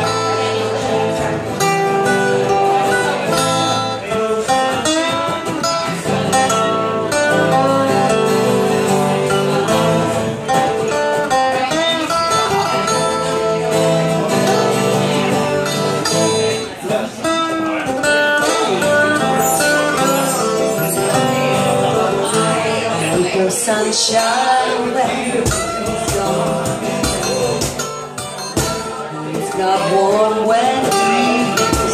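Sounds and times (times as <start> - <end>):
acoustic guitar strummed and picked: 0.0 - 31.9.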